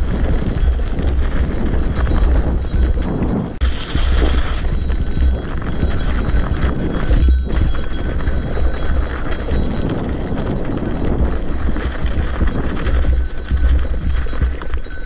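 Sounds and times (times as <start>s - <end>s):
bike tyres on loose dirt: 0.0s - 15.0s
knocks and rattles: 0.0s - 15.0s
wind rumble on microphone: 0.0s - 15.0s.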